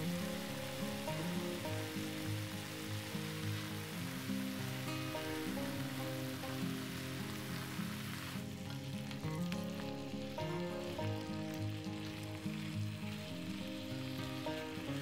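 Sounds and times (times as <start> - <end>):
background music sustained notes: 0.0 - 15.0
food sizzling in a pan: 0.0 - 15.0.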